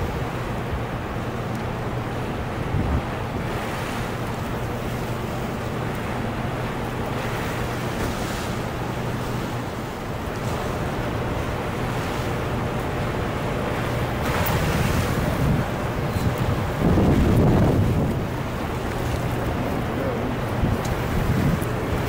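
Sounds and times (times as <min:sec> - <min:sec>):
roar of churning whitewater: 0:00.0 - 0:22.0
steady low hum: 0:00.0 - 0:22.0.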